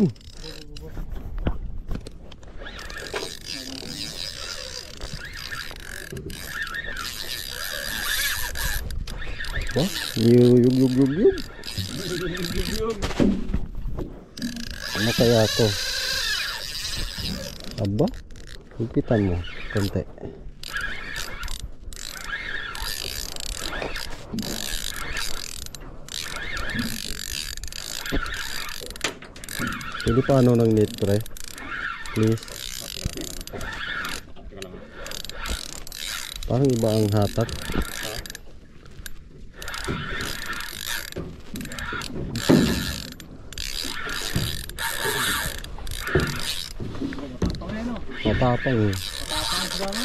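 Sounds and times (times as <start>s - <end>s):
fishing reel whirring and clicking: 0.0s - 13.0s, 14.3s - 50.0s.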